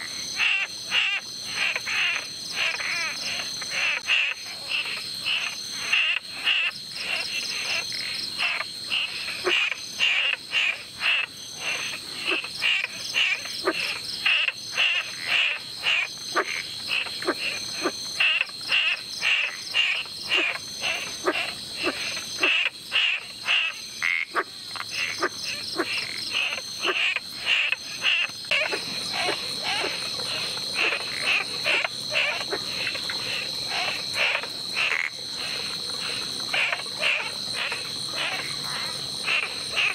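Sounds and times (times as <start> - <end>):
rapid repeated animal calls: 0.0 - 7.8, 8.4 - 39.9.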